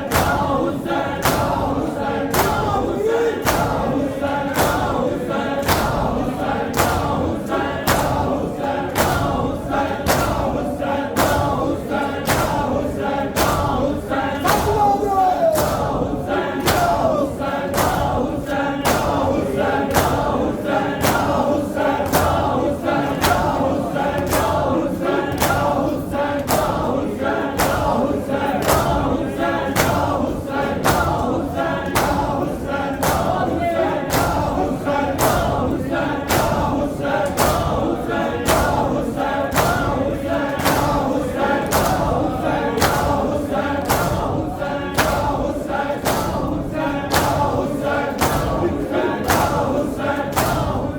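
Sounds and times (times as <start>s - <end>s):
hands slapping chests: 0.0s - 50.8s
crowd chanting in unison: 0.0s - 50.9s.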